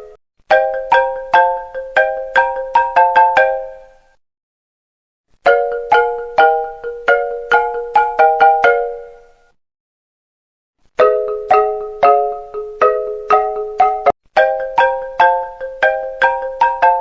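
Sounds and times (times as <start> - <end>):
ringtone melody in marimba tones: 0.0 - 4.2, 5.4 - 9.4, 11.0 - 17.0.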